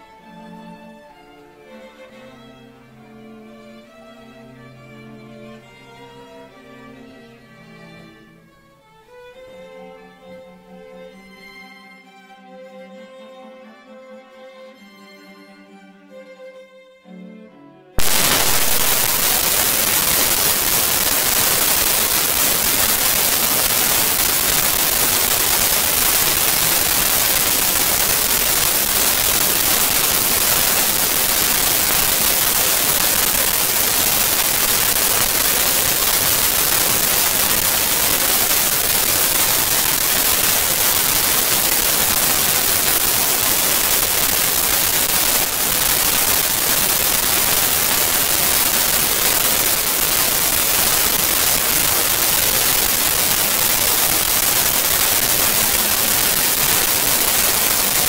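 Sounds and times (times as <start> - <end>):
loud static hiss: 0.0 - 11.7, 18.0 - 58.0.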